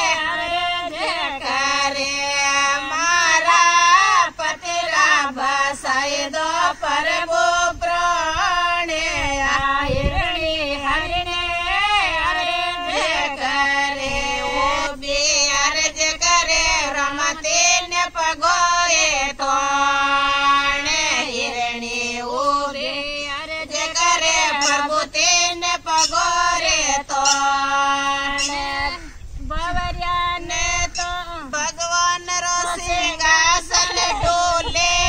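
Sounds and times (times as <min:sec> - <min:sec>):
women singing devotional song: 0:00.0 - 0:35.0.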